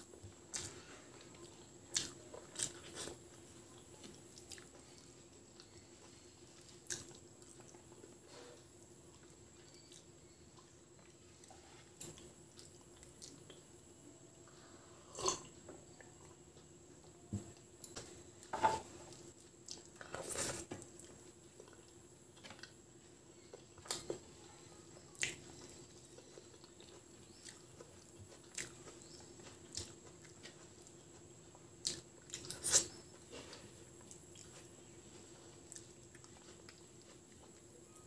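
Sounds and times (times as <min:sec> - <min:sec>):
chewing: 0:00.1 - 0:38.0.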